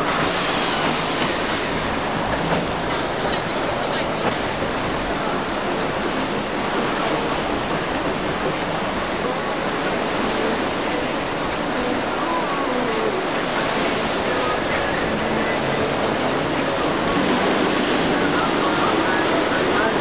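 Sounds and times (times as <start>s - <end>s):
waves breaking in rough sea: 0.0s - 20.0s.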